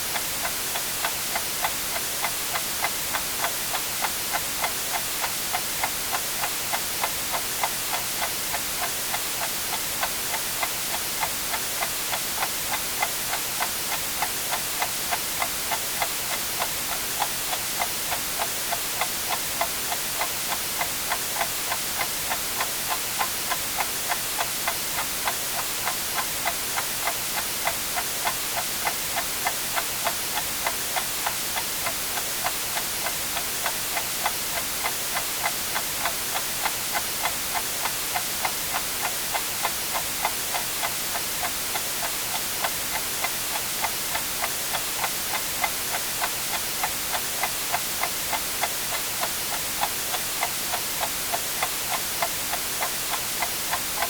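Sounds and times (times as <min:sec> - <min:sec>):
white noise hiss: 0:00.0 - 0:54.0
clock ticking: 0:00.1 - 0:54.0.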